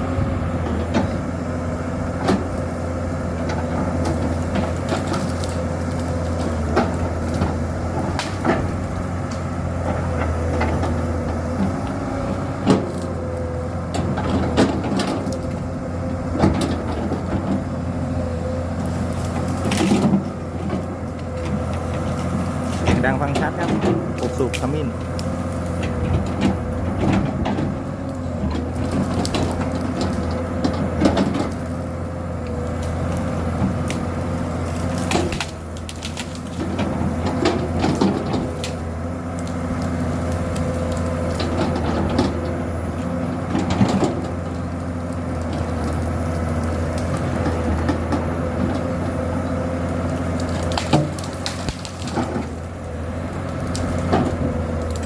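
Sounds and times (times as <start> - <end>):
excavator diesel engine running: 0.0 - 55.0
wood cracking and splintering: 2.1 - 55.0.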